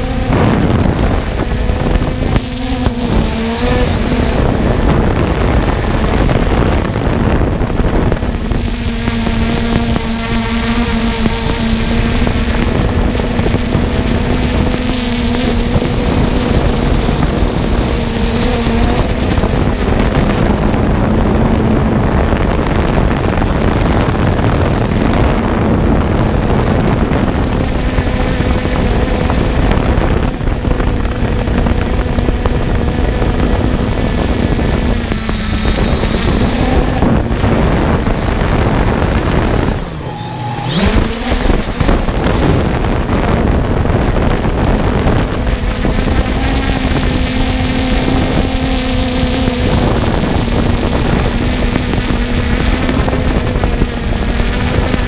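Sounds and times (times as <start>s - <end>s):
drone propellers humming: 0.0s - 55.0s
wind rush on microphone: 0.0s - 55.0s.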